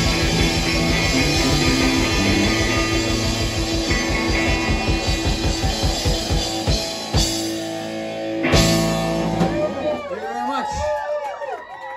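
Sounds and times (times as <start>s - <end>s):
blues-rock band playing: 0.0s - 10.2s.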